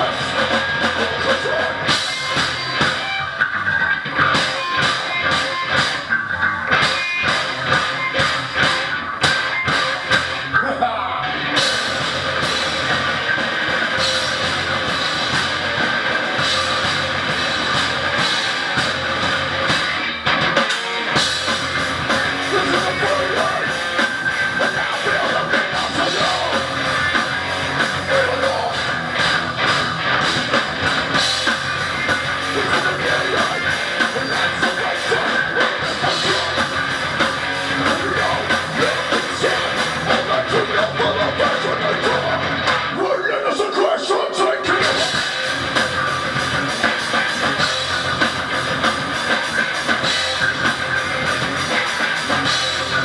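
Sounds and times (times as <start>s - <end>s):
drum kit: 0.0s - 43.7s, 44.6s - 53.0s
bass guitar: 0.0s - 53.0s
electric guitars: 0.0s - 53.0s.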